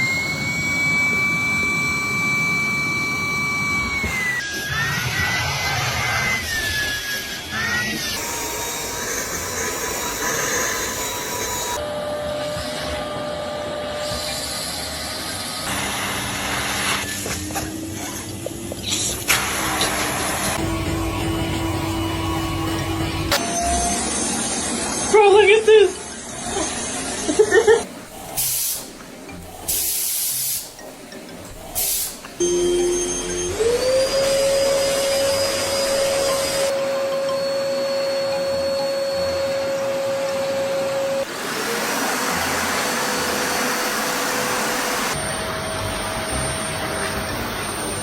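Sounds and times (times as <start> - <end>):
vacuum cleaner running: 0.0 - 18.4, 19.2 - 25.4, 31.8 - 48.0.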